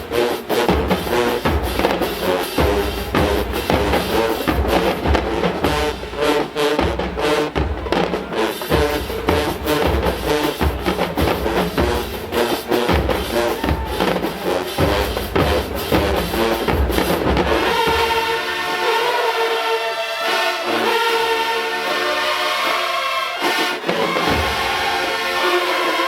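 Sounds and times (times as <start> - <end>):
bass and snare drums beating: 0.0 - 18.7, 23.8 - 26.0
brass long chords: 0.0 - 26.0
marching band playing: 0.0 - 26.0.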